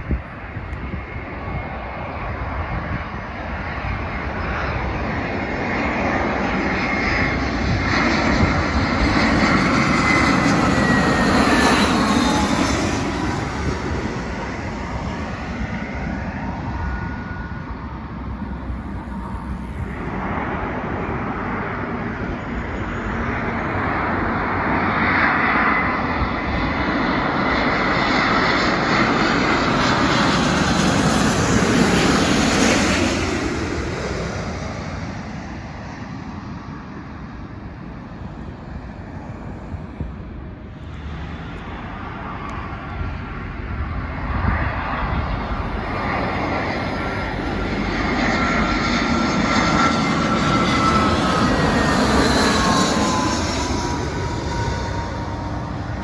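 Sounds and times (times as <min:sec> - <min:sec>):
jet passing low overhead: 0:00.0 - 0:56.0
second airliner engine noise: 0:00.0 - 0:56.0.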